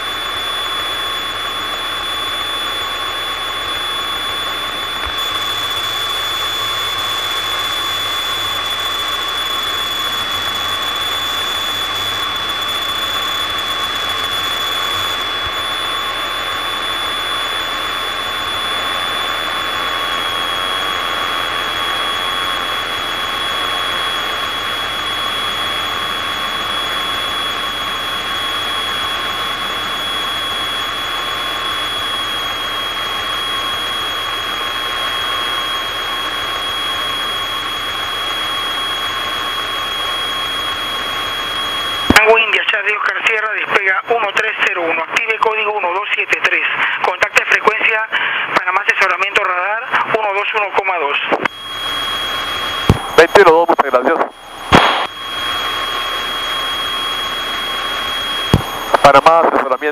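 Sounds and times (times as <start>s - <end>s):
propeller airplane engine: 0.0s - 47.1s, 51.4s - 59.9s
high-pitched whine: 0.0s - 59.9s.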